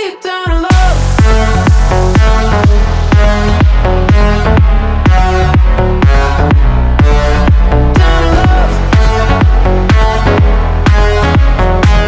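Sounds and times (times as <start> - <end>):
electronic dance-pop music: 0.0 - 12.0.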